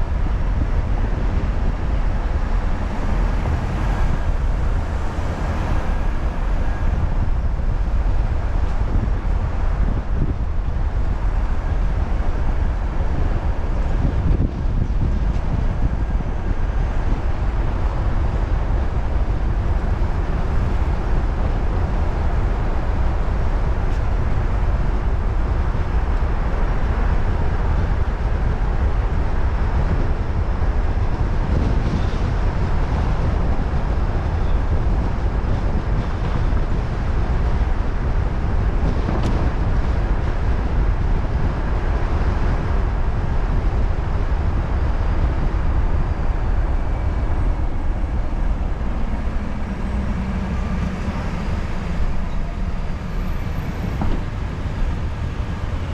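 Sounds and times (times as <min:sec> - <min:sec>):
car road and wind noise: 0:00.0 - 0:55.9.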